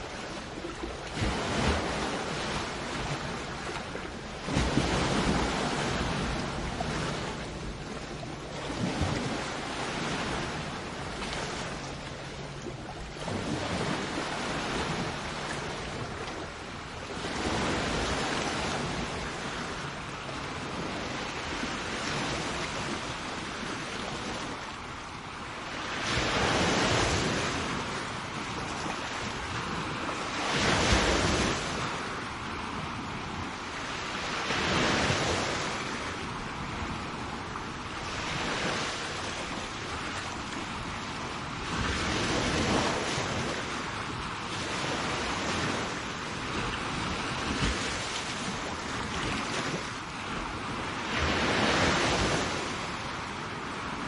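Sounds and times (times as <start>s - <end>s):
sea waves breaking on shore: 0.0s - 54.0s
wind on microphone: 0.0s - 54.0s.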